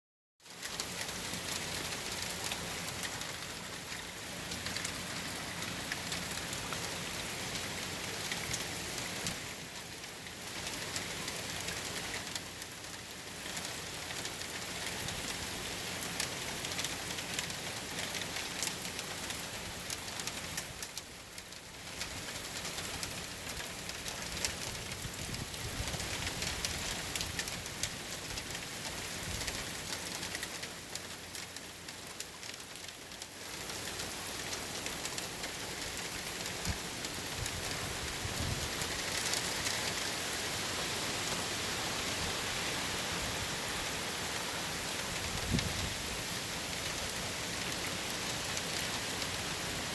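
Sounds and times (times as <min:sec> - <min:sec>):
rain pattering on surfaces: 0:00.4 - 0:49.9.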